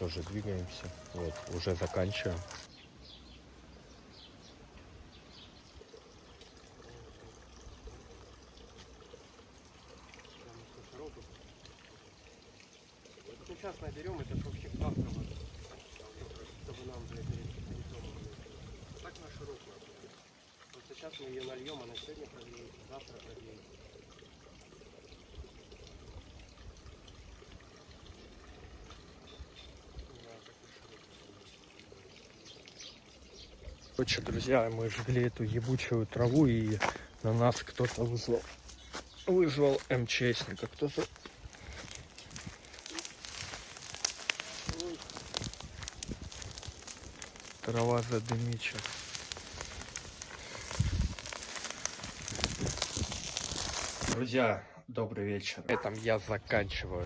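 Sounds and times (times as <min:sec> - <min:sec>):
water pouring into a container: 0:00.0 - 0:02.7, 0:05.6 - 0:54.2.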